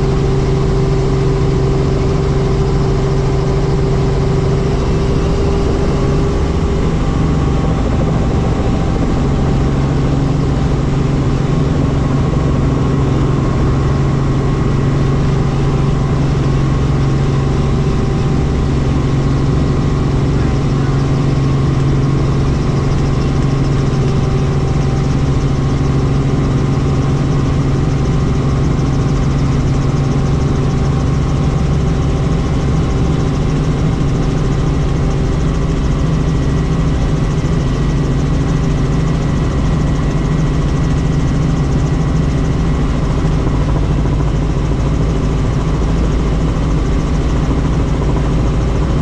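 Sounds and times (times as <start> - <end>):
helicopter engine and rotors: 0.0 - 49.0.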